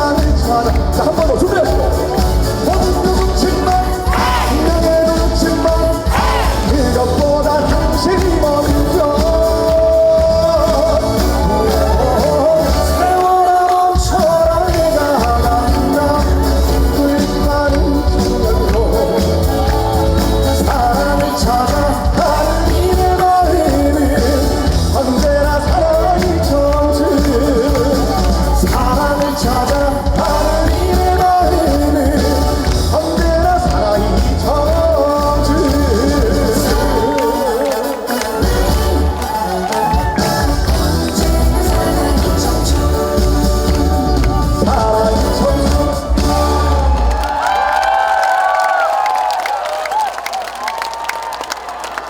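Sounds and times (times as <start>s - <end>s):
live band playing upbeat song: 0.0s - 48.0s
person singing: 0.0s - 48.2s.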